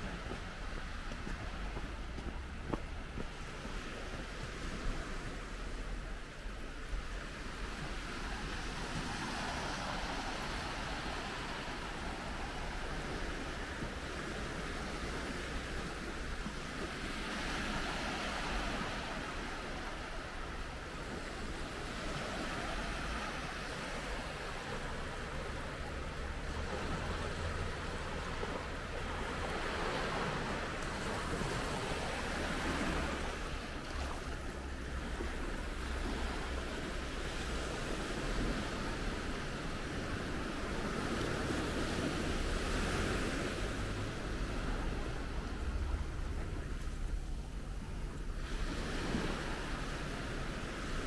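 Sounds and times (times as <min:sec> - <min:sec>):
sea waves breaking on a beach: 0:00.0 - 0:51.0
wind rumbling on microphone: 0:00.0 - 0:51.0.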